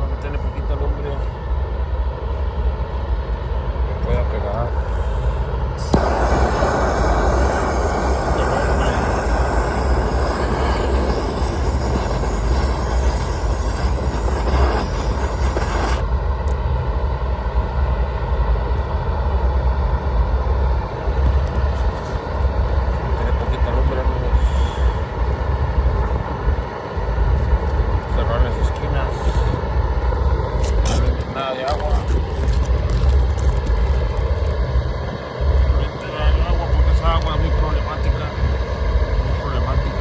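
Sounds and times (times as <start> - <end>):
low rumble: 0.0 - 40.0
torch flame rushing: 4.1 - 18.0, 20.6 - 40.0.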